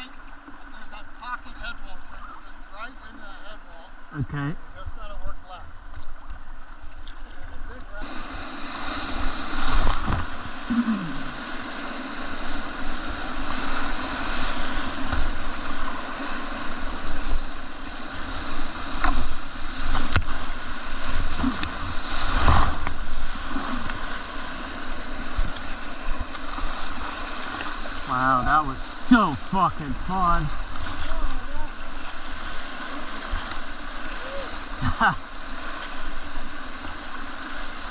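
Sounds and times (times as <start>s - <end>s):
splashing waves: 0.0s - 37.9s
rushing whitewater: 7.5s - 37.9s.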